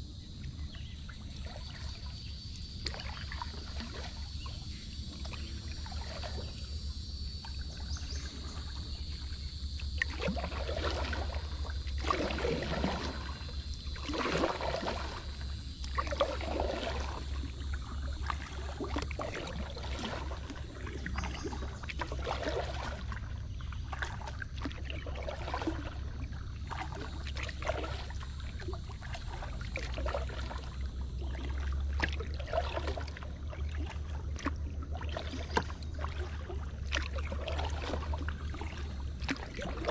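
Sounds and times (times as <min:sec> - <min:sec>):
paddle splashes and drips: 0:00.0 - 0:39.9.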